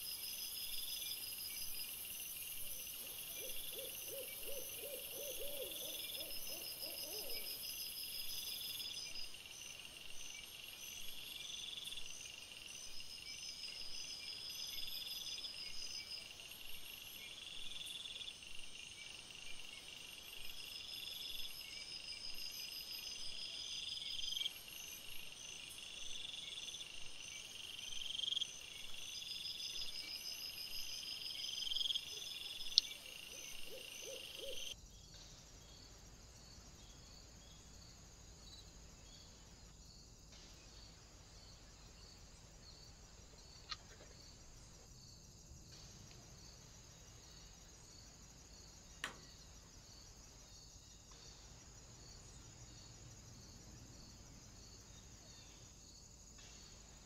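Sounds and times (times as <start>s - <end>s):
crickets chirping: 0.0s - 57.0s
faint steady hiss: 0.0s - 57.0s.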